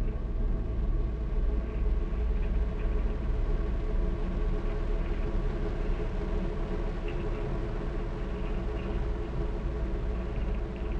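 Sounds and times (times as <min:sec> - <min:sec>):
low mechanical rumble: 0:00.0 - 0:10.9.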